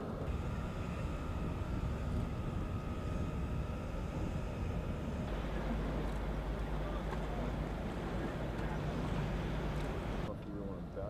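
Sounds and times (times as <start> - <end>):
ship machinery rumble: 0.0 - 10.3
faint steady whine: 0.0 - 11.0.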